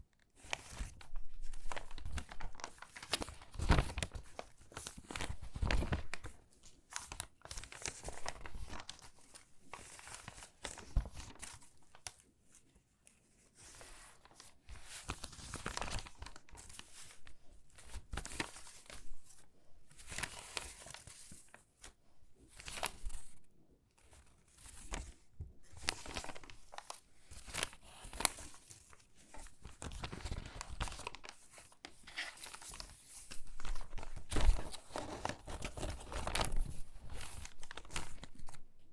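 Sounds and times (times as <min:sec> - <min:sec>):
stiff magazine pages rustling: 0:00.4 - 0:12.3, 0:13.3 - 0:23.3, 0:24.0 - 0:38.6.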